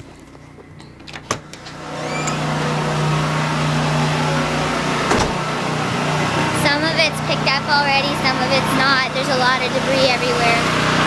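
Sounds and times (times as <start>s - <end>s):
motor hum with rushing noise: 0.0s - 11.0s.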